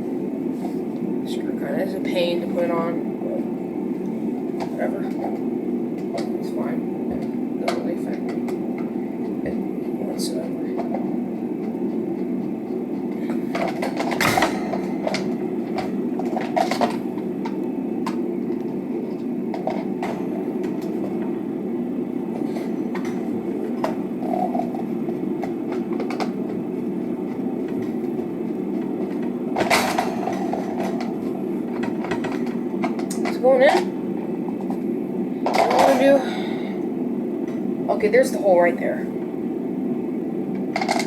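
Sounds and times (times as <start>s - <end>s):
low rushing background noise: 0.0s - 41.0s.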